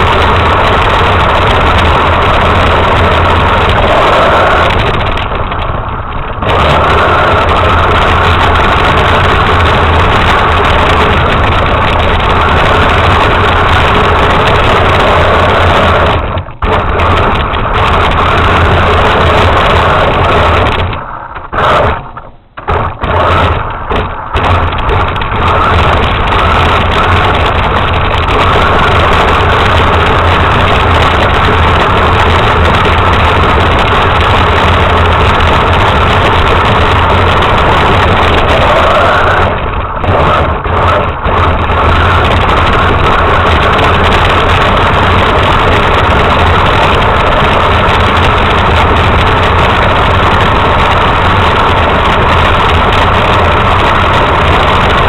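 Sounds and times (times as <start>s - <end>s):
toy truck motor running: 0.0s - 55.0s.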